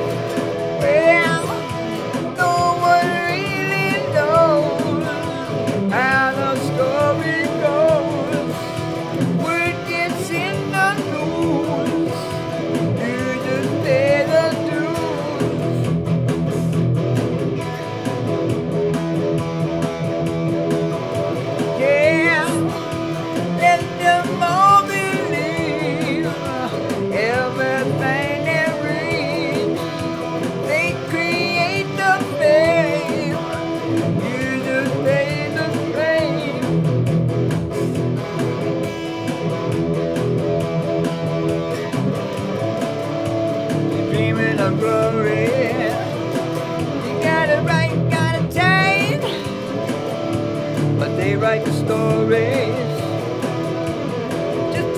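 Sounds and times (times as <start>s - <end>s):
drum machine beat: 0.0s - 54.9s
electric guitar with string bends: 0.0s - 54.9s.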